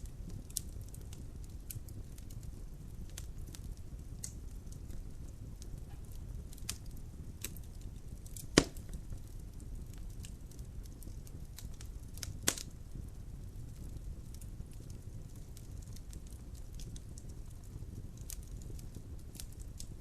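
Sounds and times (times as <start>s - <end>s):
fire crackling: 0.0s - 20.0s
low rumble of flame: 0.0s - 20.0s
sharp pops of fire: 0.0s - 20.0s.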